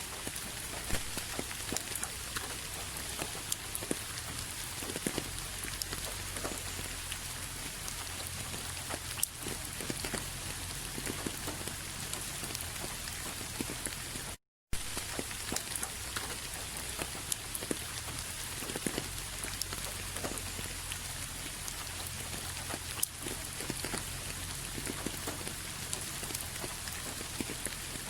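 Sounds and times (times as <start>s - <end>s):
steady rain: 0.0s - 28.0s
raindrop hits: 0.1s - 28.0s.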